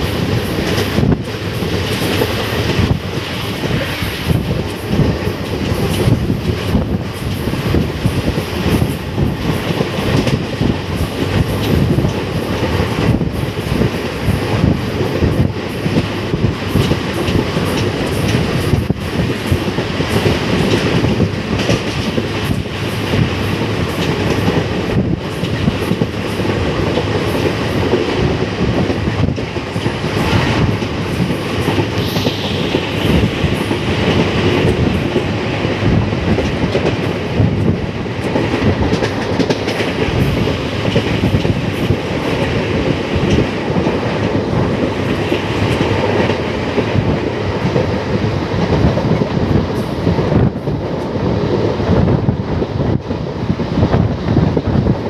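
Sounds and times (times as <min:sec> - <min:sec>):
train wheels rumbling on rails: 0:00.0 - 0:55.0
clicks and knocks from track: 0:00.4 - 0:35.3, 0:36.2 - 0:51.1.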